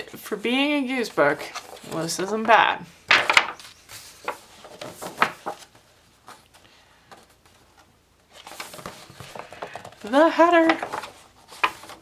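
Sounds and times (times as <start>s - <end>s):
paper pages rustling: 0.4s - 12.0s.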